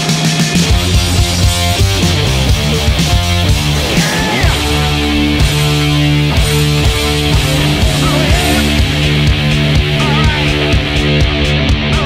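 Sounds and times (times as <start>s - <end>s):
heavy rock music: 0.0s - 12.0s
bending lead guitar line: 0.6s - 12.0s.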